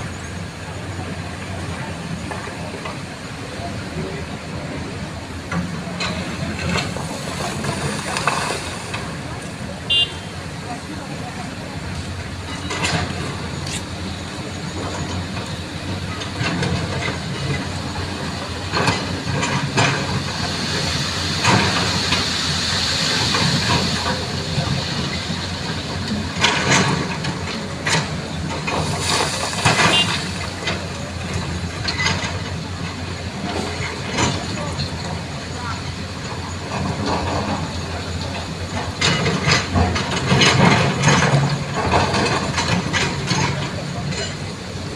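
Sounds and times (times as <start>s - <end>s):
heavy vehicle traffic: 0.0s - 44.9s
road repair knocks and clatters: 0.0s - 44.9s.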